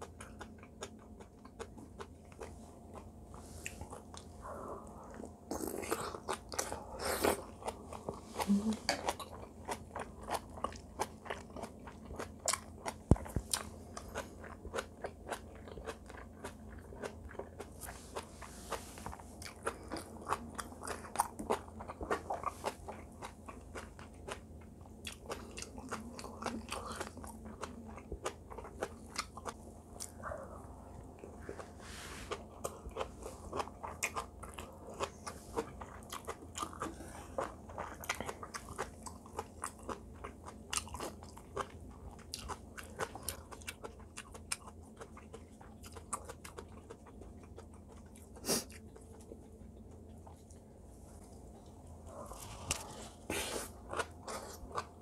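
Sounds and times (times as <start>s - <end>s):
person chewing with wet crunches: 0.0s - 55.0s.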